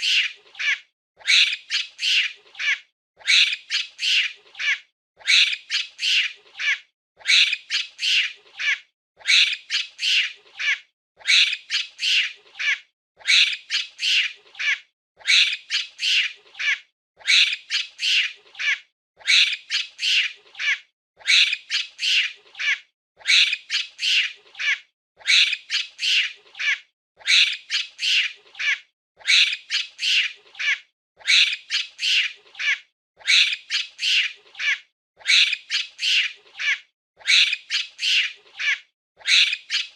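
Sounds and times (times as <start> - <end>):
monkey shrill calls: 0.0 - 39.9.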